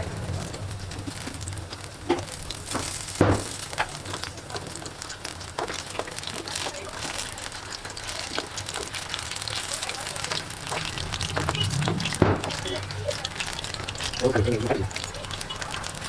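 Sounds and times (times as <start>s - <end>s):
deep-frying sizzle with pops: 0.0s - 16.0s.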